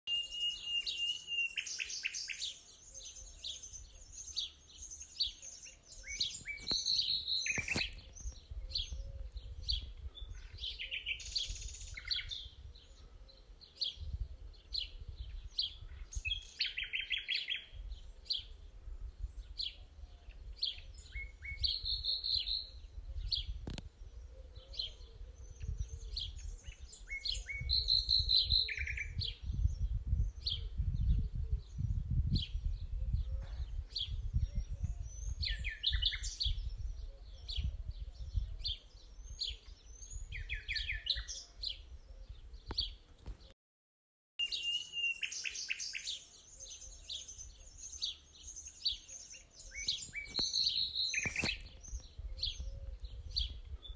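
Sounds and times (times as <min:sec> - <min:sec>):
small birds chirping and trilling: 0:00.1 - 0:43.5, 0:44.4 - 0:53.9.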